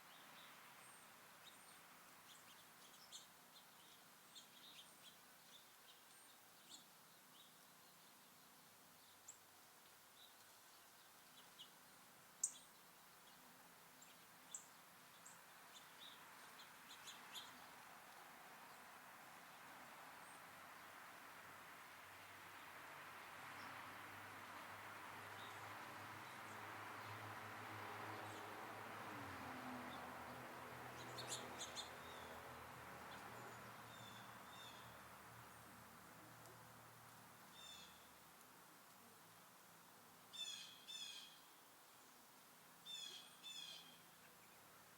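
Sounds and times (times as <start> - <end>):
faint steady hiss: 0.0 - 44.9
songbirds chirping: 0.0 - 44.9.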